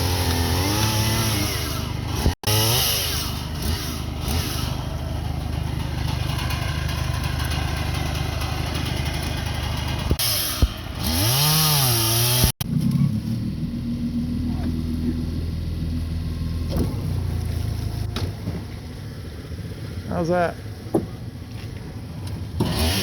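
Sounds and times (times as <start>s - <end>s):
small petrol engine revving: 0.0s - 18.1s, 22.6s - 23.0s.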